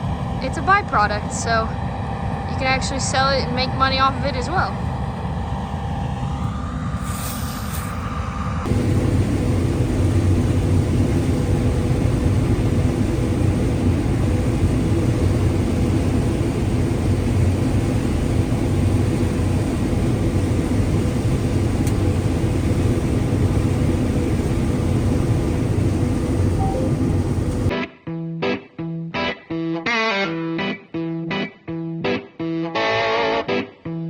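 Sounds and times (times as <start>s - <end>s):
combine harvester engine drone: 0.0s - 27.7s.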